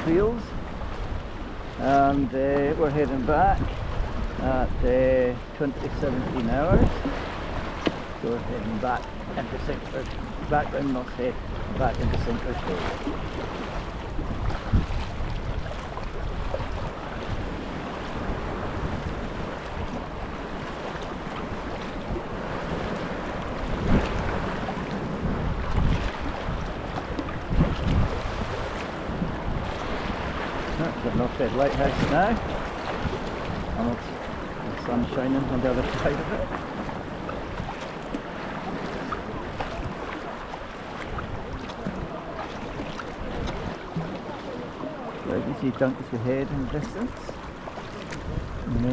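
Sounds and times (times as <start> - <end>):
wind buffeting microphone: 0.0 - 45.7, 46.6 - 48.9
sea water lapping around kayak: 0.0 - 48.9.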